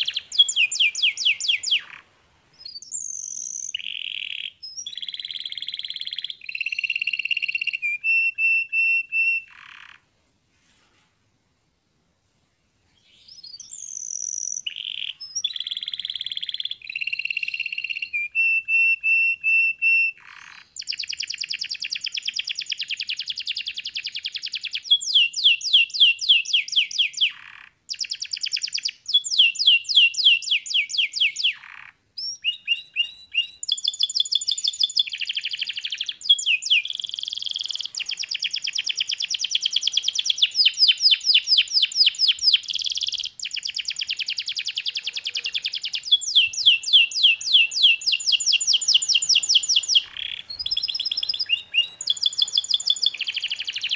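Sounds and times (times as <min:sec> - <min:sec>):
canary singing: 0:00.0 - 0:10.1, 0:13.0 - 0:53.9.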